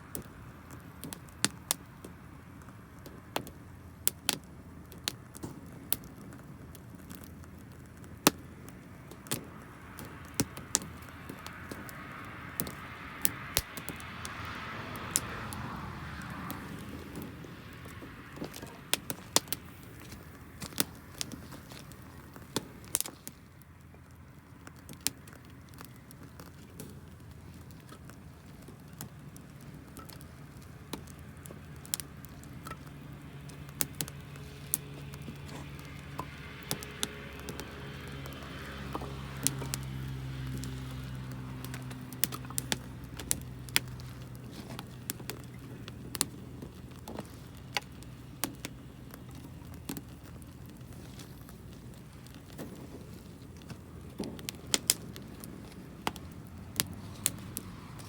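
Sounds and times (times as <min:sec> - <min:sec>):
low engine hum: 0:00.0 - 0:58.0
wood fire crackling and popping: 0:00.0 - 0:58.0.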